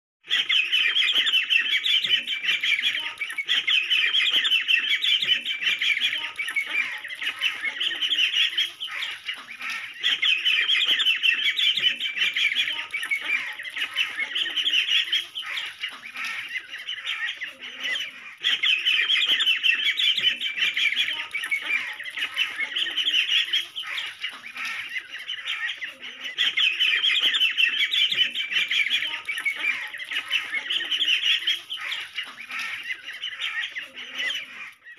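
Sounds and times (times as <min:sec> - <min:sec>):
ducklings peeping: 0:00.3 - 0:34.9.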